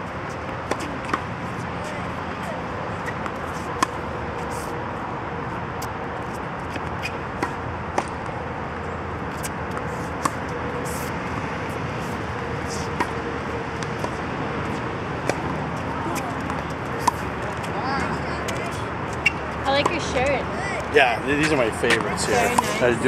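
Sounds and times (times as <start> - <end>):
tennis balls struck by rackets: 0.4 - 4.7, 5.8 - 8.4, 9.2 - 20.2, 21.4 - 22.9.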